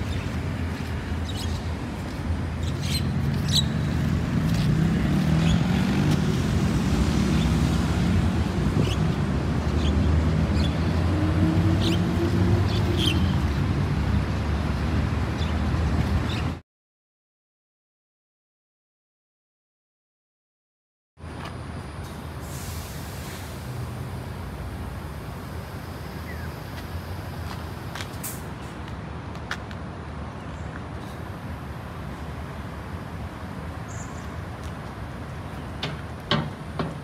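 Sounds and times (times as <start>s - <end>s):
cars passing: 0.0s - 16.6s, 21.2s - 37.0s.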